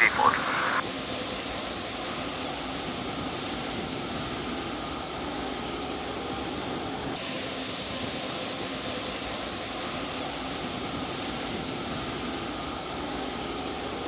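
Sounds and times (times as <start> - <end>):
distant jet engines rushing: 0.0 - 14.0
faint hum: 0.0 - 14.0.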